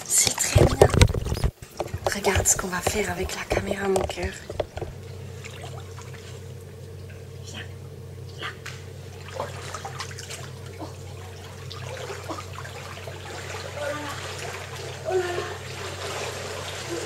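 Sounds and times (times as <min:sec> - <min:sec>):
pool water sloshing and splashing: 0:00.0 - 0:07.3, 0:08.6 - 0:17.0
steady low hum: 0:00.0 - 0:17.0.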